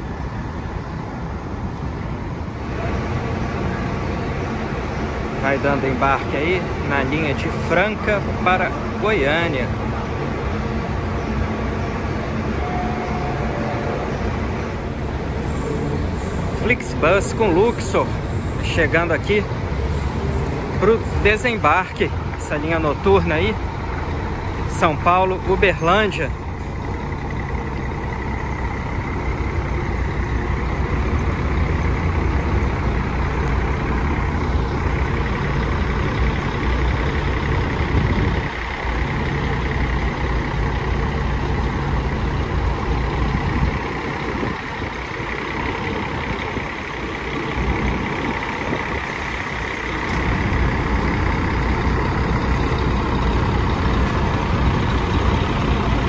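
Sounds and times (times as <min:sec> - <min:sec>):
coach engine rumble: 0:00.0 - 0:56.0.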